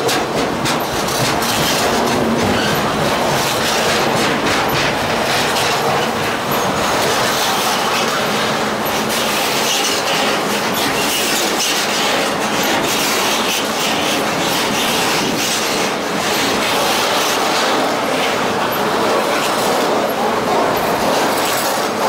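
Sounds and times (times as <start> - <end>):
railroad cars rolling on rails: 0.0 - 22.0
wheels clicking over rail joints: 0.0 - 22.0.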